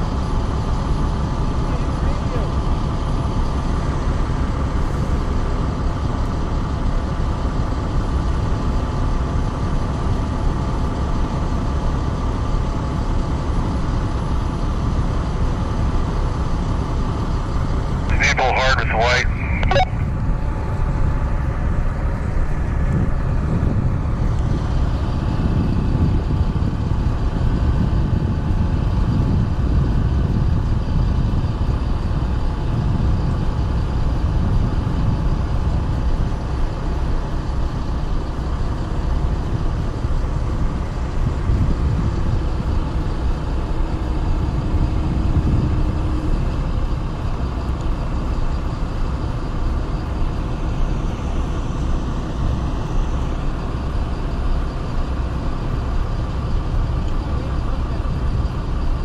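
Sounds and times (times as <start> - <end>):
diesel truck engines idling: 0.0 - 59.0
faint steady whine: 0.0 - 59.0.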